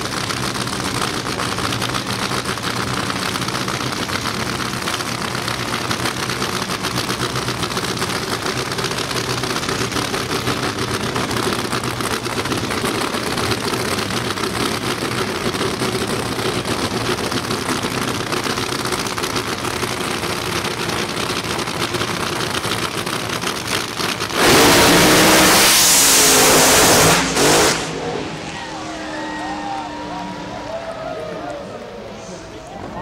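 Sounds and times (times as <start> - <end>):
drag racing engine revving: 0.0 - 33.0.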